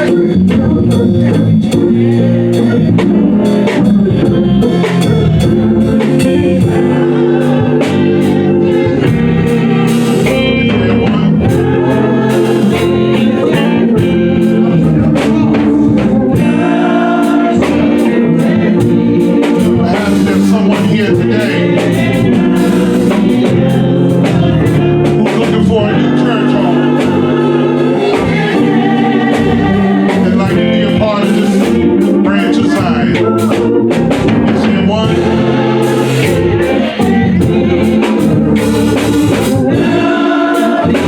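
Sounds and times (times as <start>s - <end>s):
gospel singing with band: 0.0s - 41.0s.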